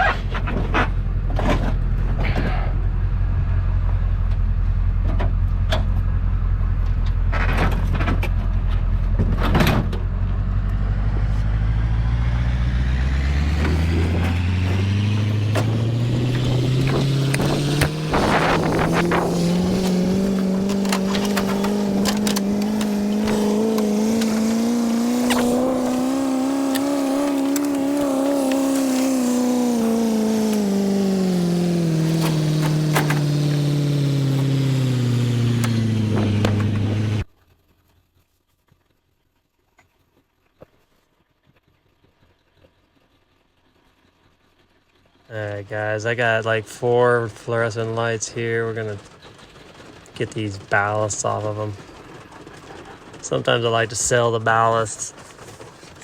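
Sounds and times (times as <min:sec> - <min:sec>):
truck engine: 0:00.0 - 0:37.3, 0:45.3 - 0:56.0
engine knocks and clicks: 0:00.0 - 0:37.5, 0:41.4 - 0:56.0.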